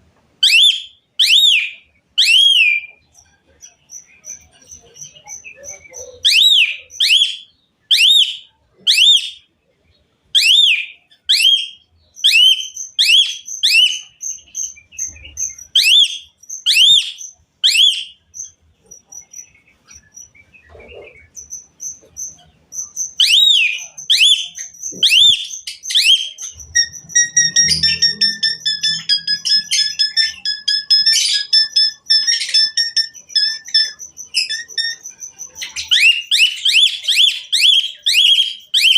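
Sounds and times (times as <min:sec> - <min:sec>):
starling singing whistles: 0:00.4 - 0:03.1, 0:03.7 - 0:09.5, 0:10.4 - 0:20.5, 0:21.2 - 0:38.9.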